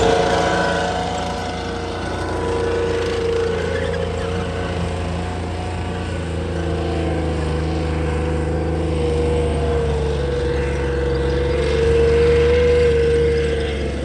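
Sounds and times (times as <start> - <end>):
tank engine droning: 0.0 - 14.0
wavering engine whine: 0.0 - 14.0.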